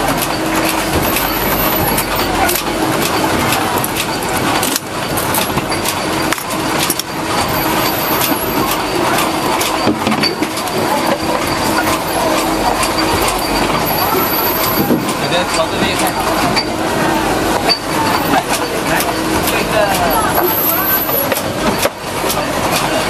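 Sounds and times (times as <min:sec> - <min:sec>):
machinery clattering: 0:00.0 - 0:23.0
machinery hum: 0:00.0 - 0:23.0.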